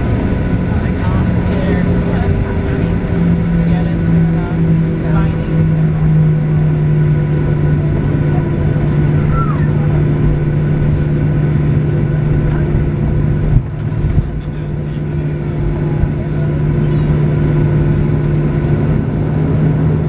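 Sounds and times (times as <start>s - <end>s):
airplane cabin engine hum: 0.0s - 20.0s.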